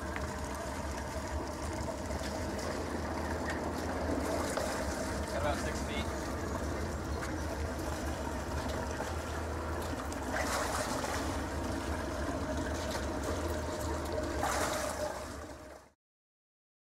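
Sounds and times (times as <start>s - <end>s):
boat engines idling: 0.0s - 16.0s
water splashing wash: 0.0s - 16.0s.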